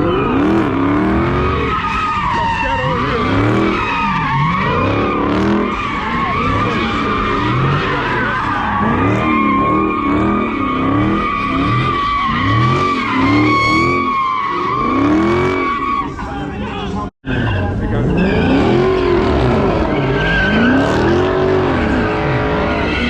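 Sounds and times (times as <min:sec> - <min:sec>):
car engine revving: 0:00.0 - 0:23.0
tyres squealing: 0:00.0 - 0:23.0.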